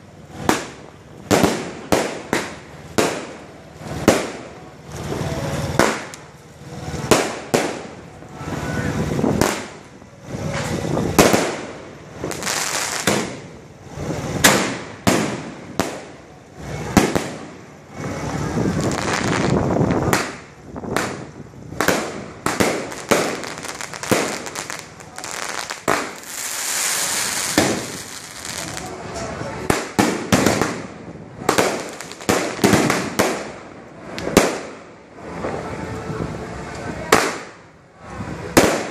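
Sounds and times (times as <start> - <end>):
fireworks bangs: 0.0 - 38.9
fireworks crackling and hissing: 0.0 - 38.9.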